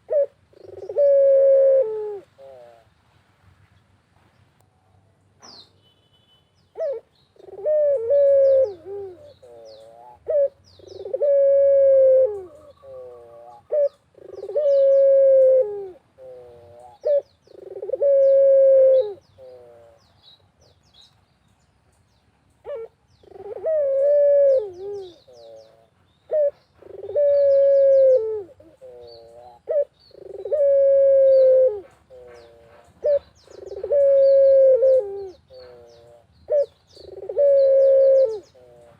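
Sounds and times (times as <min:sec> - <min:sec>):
small birds chirping: 0:00.0 - 0:01.2, 0:05.4 - 0:11.3, 0:12.3 - 0:38.9
dove cooing: 0:00.0 - 0:02.9, 0:06.8 - 0:20.0, 0:22.6 - 0:38.9.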